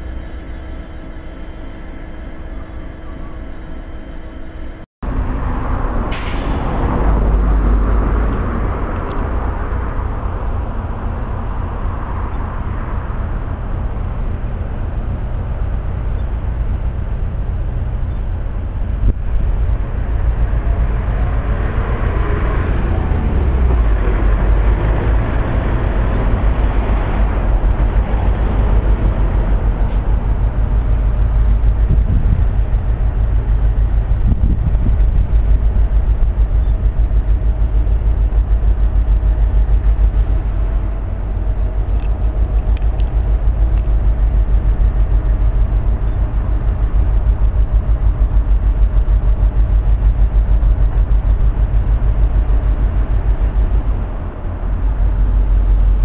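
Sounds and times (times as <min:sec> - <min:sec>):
diesel locomotive engines throbbing: 0:00.0 - 0:56.0.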